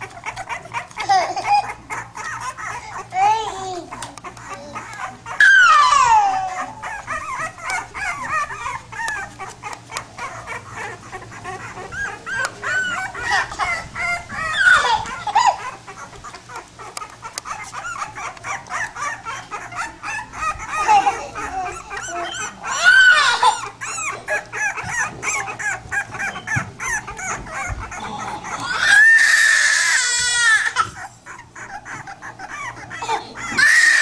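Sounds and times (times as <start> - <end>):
puppies whining and squeaking: 0.0 - 34.0.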